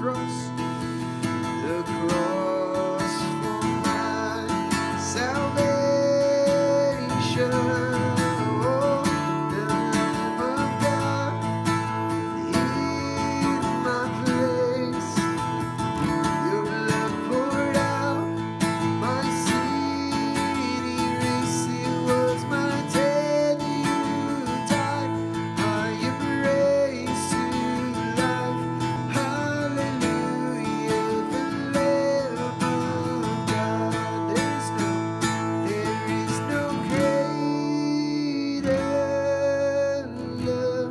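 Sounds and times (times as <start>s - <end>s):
acoustic guitar music: 0.0s - 40.9s.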